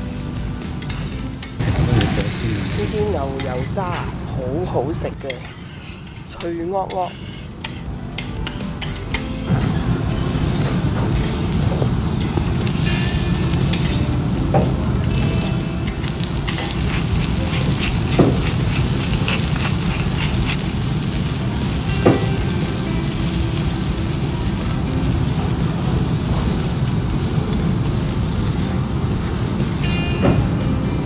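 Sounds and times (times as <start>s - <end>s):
beef sizzling on a griddle: 0.0s - 31.0s.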